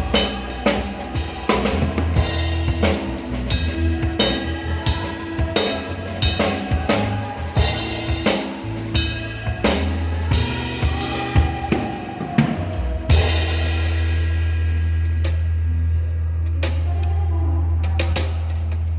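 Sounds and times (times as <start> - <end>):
drum kit playing: 0.0 - 17.0
bass line: 0.0 - 18.9.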